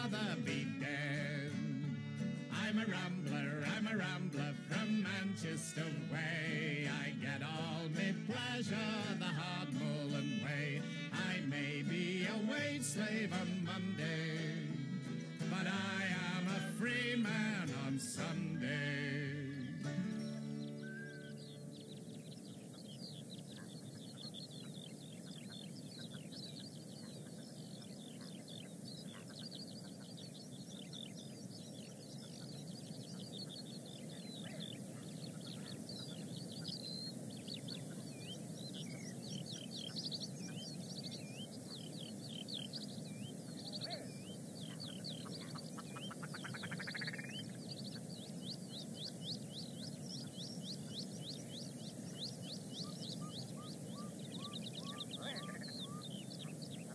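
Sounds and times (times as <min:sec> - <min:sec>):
small birds chirping and trilling: 0:00.0 - 0:56.9.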